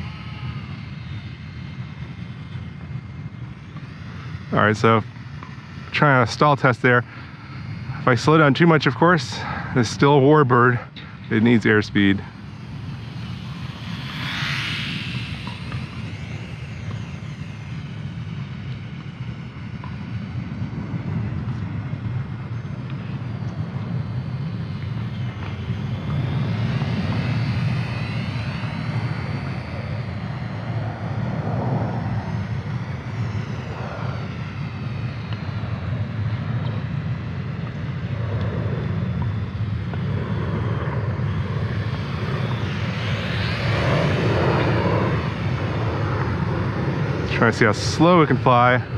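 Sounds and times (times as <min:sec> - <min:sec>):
model plane motor whine: 0:00.0 - 0:48.9.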